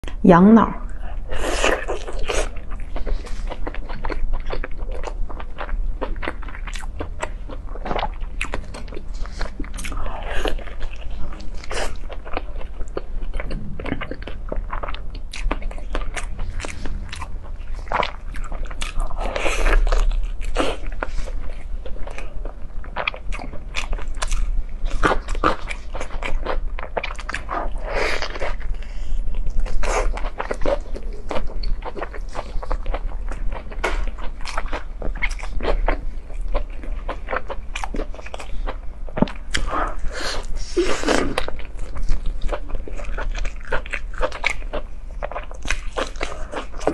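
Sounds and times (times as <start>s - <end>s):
person chewing crispy food: 1.0s - 46.9s.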